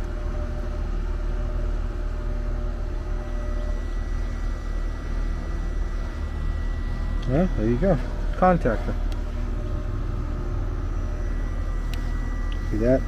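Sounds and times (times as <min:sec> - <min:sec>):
machinery droning hum: 0:00.0 - 0:13.0.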